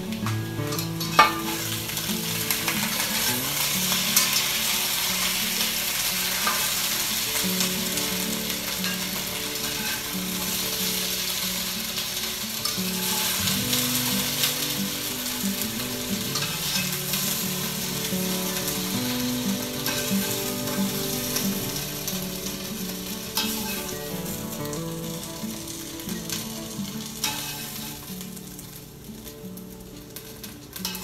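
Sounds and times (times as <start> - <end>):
potatoes sizzling in oil: 0.0 - 31.0.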